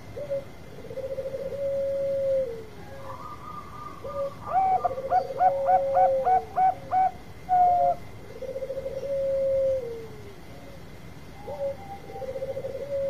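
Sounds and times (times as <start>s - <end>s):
dove cooing song: 0.0s - 13.0s.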